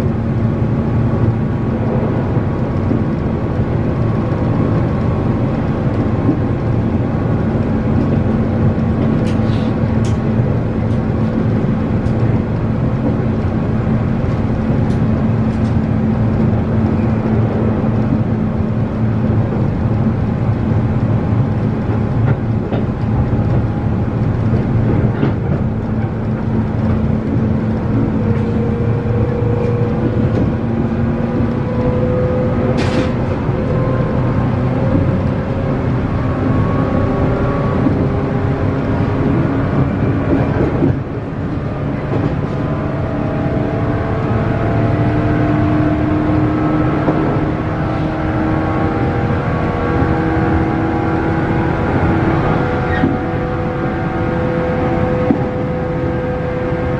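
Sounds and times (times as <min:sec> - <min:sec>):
rail joint clicks: 0:00.0 - 0:45.2, 0:51.9 - 0:53.2, 0:55.0 - 0:56.2
train traction motors running: 0:00.0 - 0:56.2
wheels rumbling on rail: 0:00.0 - 0:56.9.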